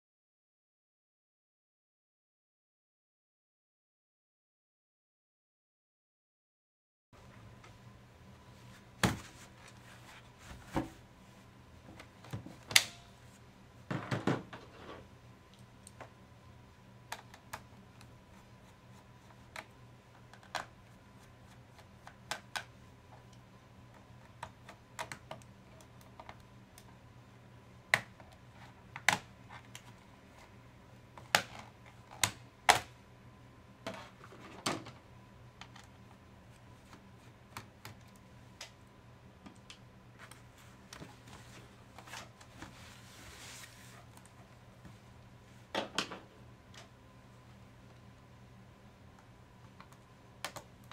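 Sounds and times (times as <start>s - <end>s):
faint steady hum: 7.2s - 50.9s.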